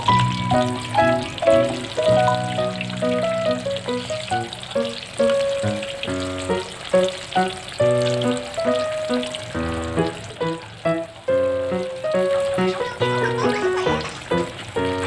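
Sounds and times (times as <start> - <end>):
background music: 0.0 - 15.0
oil sizzling in a pan: 0.0 - 15.0.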